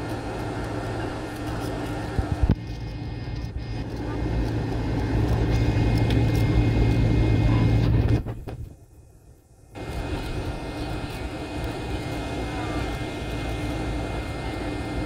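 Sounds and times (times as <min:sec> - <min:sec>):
airliner engine rumble: 0:00.0 - 0:15.0.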